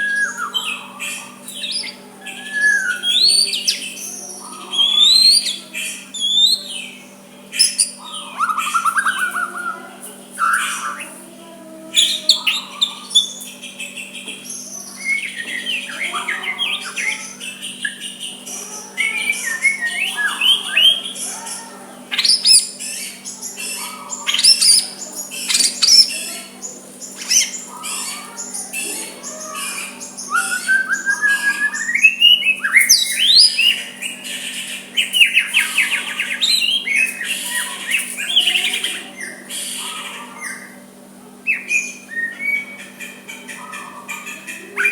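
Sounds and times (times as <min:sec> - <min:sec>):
bird singing whistles and trills: 0:00.0 - 0:11.1, 0:12.0 - 0:21.4, 0:22.1 - 0:40.8, 0:41.5 - 0:43.9.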